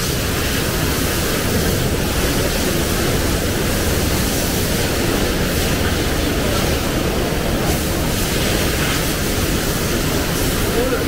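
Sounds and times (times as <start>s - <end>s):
factory machinery running: 0.0s - 11.0s.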